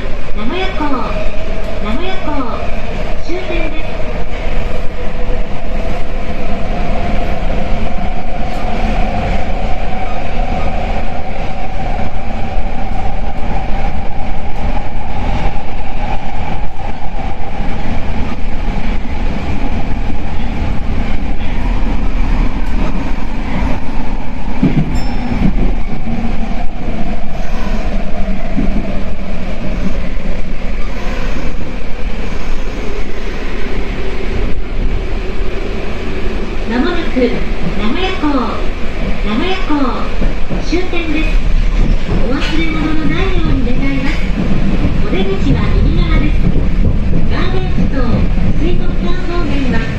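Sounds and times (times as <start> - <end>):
train running noise: 0.0 - 49.9.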